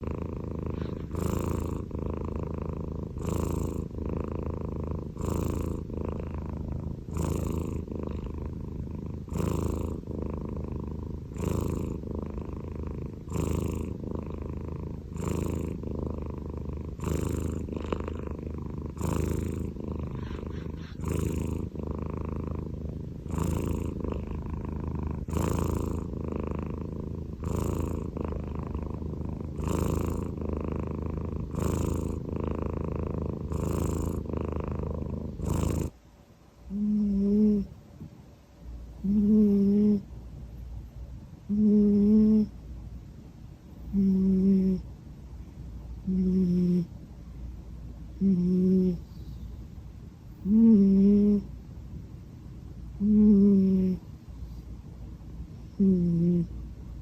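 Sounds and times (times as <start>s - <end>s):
cat snoring: 0.0s - 36.0s, 36.7s - 37.8s, 39.0s - 40.1s, 41.5s - 42.5s, 43.8s - 44.9s, 46.0s - 46.9s, 48.2s - 49.4s, 50.4s - 51.5s, 53.0s - 54.6s, 55.7s - 56.6s.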